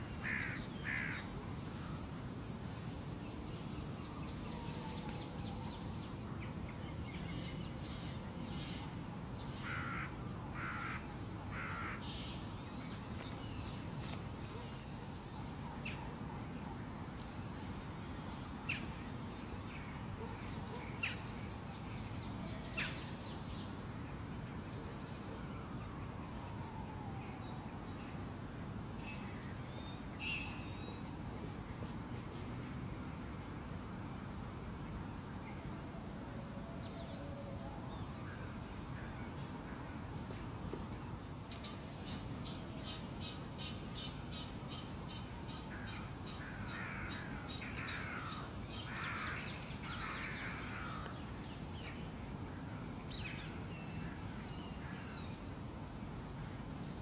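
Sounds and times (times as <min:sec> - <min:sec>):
steady low background noise: 0:00.0 - 0:57.0.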